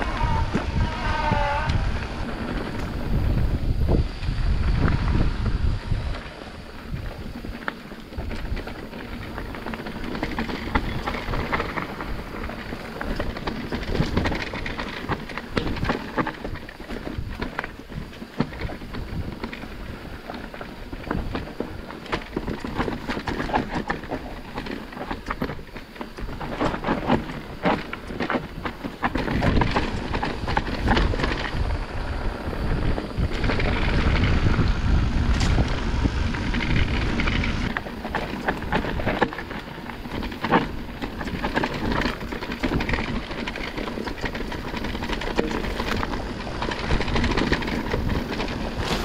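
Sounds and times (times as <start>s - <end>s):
bike rattling: 0.0s - 49.0s
bike tyres crunching over stones: 0.0s - 49.0s
wind buffeting microphone: 0.0s - 49.0s.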